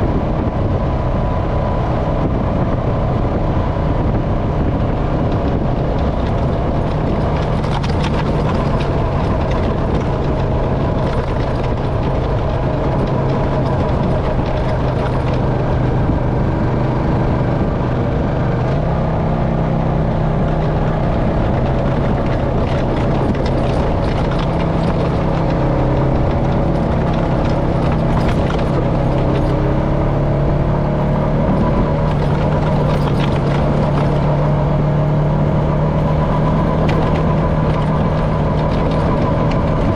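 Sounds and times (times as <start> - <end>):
atv engine running: 0.0 - 39.9
tyre and wind noise: 0.0 - 39.9.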